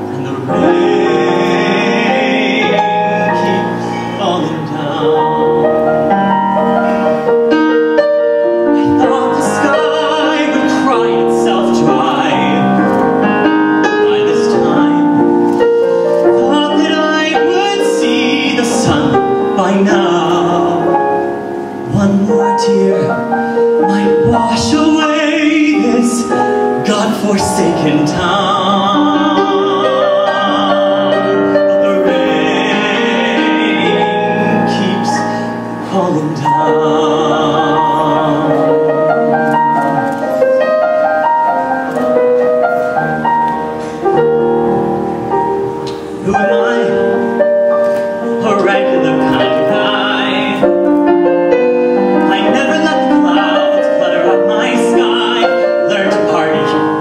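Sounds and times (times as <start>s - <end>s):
man singing ballad: 0.0s - 5.9s, 8.3s - 39.8s, 46.1s - 57.0s
piano accompaniment: 0.0s - 57.0s.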